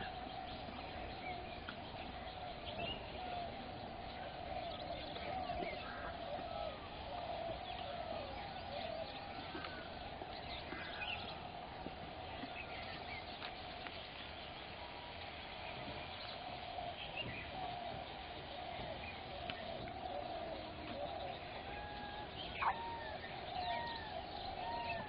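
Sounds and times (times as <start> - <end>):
wild birds chirping: 0.0 - 25.0.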